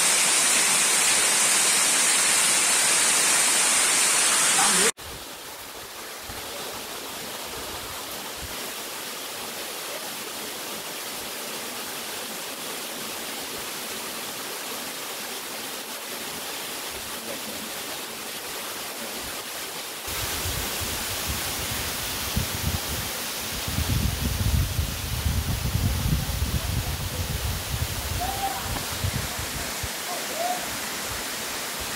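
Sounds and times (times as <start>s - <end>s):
waterfall rushing: 0.0s - 5.0s, 5.6s - 31.9s.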